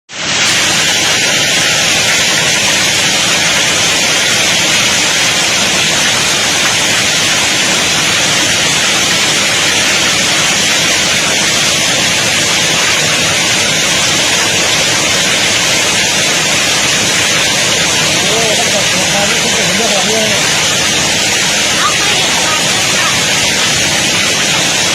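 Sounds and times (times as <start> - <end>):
heavy rain: 0.1 - 24.9
hail falling: 0.3 - 24.9.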